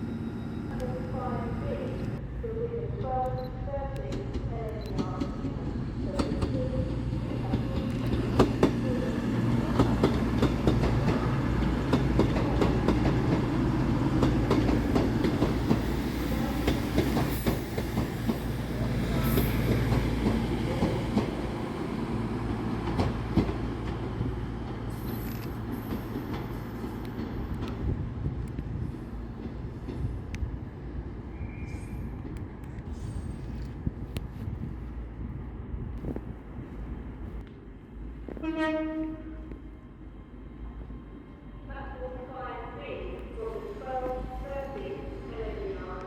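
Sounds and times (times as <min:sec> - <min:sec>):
train traction hum: 0:00.0 - 0:46.0.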